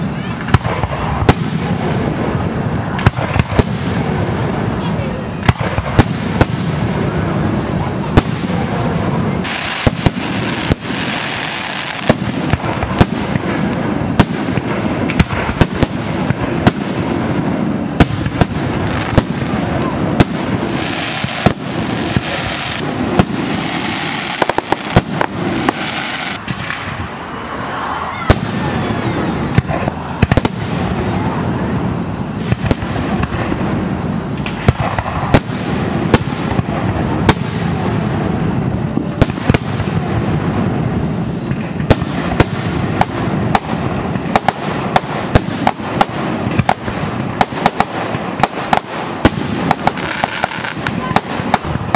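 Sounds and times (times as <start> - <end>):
fireworks bangs: 0.0 - 51.9.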